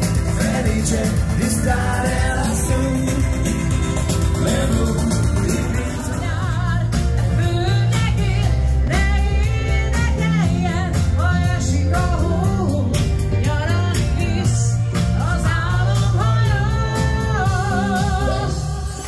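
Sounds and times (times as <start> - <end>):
steady drum beat: 0.0 - 18.8
bass: 0.0 - 19.0
person singing: 0.0 - 19.0.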